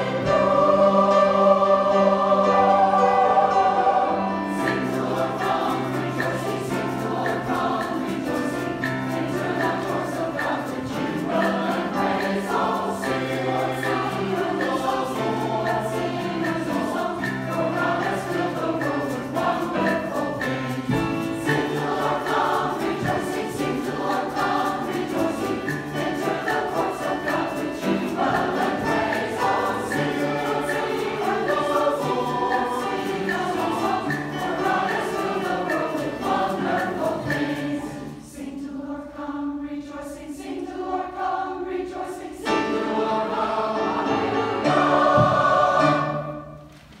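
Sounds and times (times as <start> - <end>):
strings and brass: 0.0 - 39.4, 42.2 - 47.0
mixed choir singing: 0.0 - 47.0.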